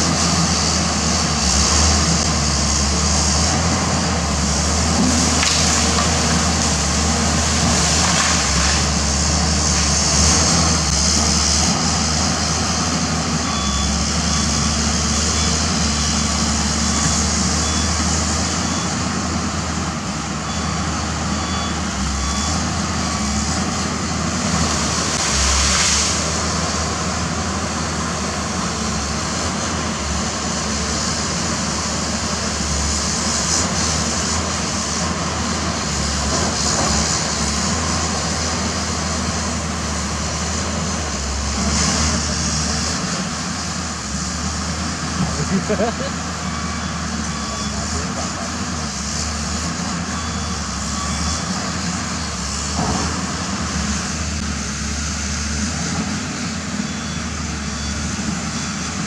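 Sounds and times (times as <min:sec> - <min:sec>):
excavator diesel engine drone: 0:00.0 - 0:59.0.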